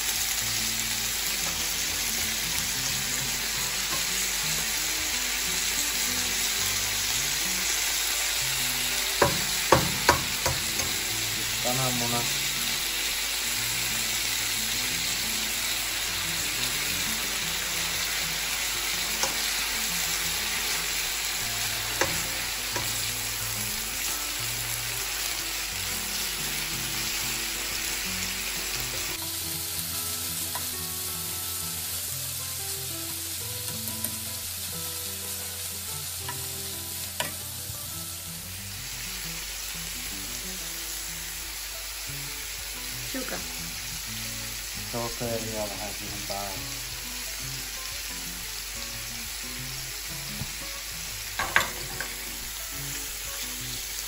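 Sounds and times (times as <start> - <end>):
food sizzling in a frying pan: 0.0 - 54.0.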